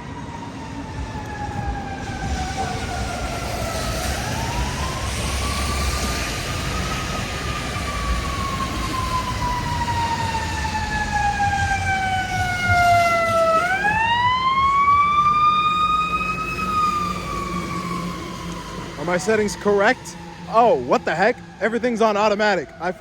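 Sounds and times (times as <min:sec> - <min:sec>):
emergency siren wailing: 0:00.0 - 0:23.0.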